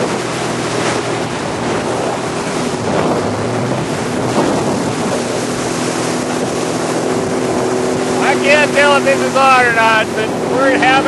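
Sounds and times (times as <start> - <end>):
jet ski engine hum: 0.0 - 11.0
water spray and hull splash: 0.0 - 11.0
wind buffeting microphone: 0.0 - 11.0.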